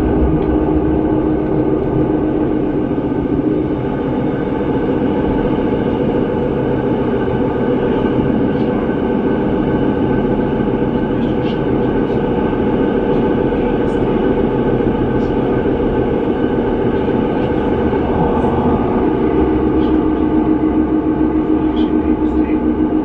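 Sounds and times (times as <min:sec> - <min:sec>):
train rolling noise: 0:00.0 - 0:23.0.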